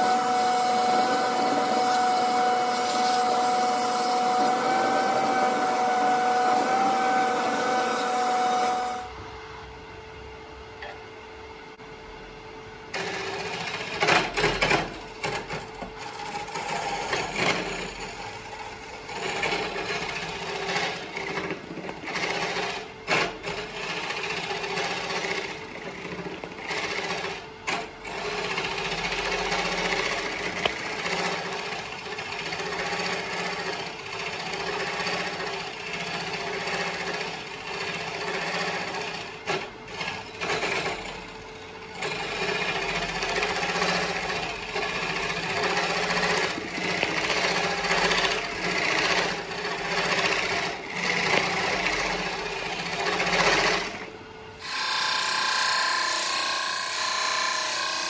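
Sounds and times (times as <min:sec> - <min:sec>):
lathe tool rasping on wood: 0:00.0 - 0:09.1, 0:16.0 - 0:39.3, 0:42.0 - 0:54.0, 0:54.6 - 0:58.0
lathe motor hum: 0:00.0 - 0:09.2, 0:14.8 - 0:58.0.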